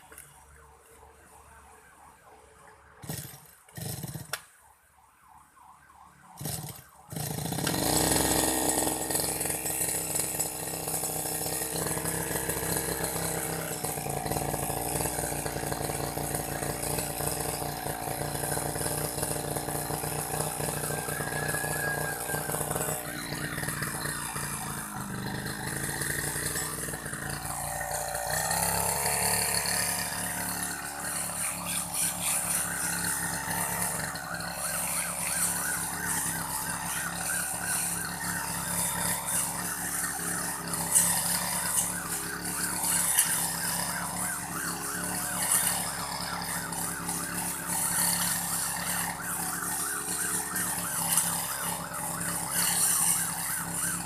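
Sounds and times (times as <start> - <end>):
grass-cutter engine running: 0.0 - 1.0, 3.0 - 4.5, 6.3 - 54.0.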